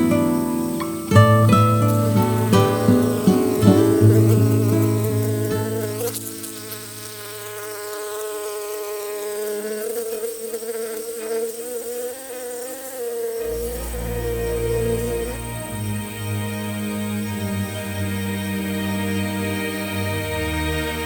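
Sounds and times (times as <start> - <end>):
flying insect buzzing: 0.0 - 21.0.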